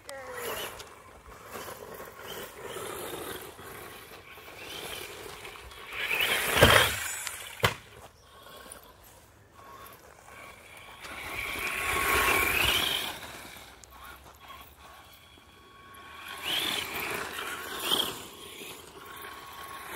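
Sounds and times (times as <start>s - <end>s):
electric toy truck motor whirring: 0.0s - 19.9s.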